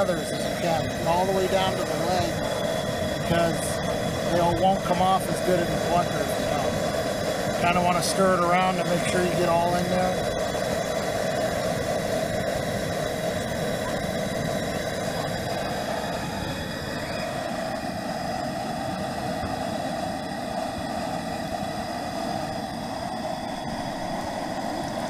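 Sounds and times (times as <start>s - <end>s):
gas burner rushing: 0.0s - 25.0s.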